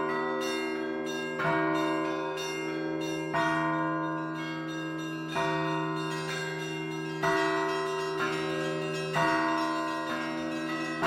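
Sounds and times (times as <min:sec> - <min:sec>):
church bell strikes: 0:00.0 - 0:11.0
hum of large bells ringing: 0:00.0 - 0:11.0.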